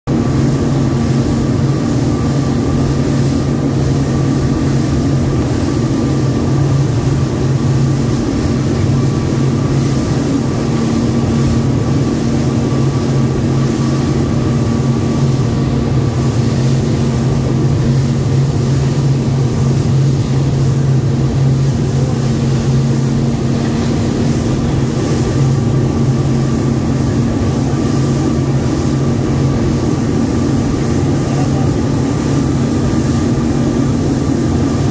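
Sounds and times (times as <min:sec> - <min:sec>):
rushing water: 0:00.1 - 0:34.9
speedboat engine drone: 0:00.1 - 0:34.9.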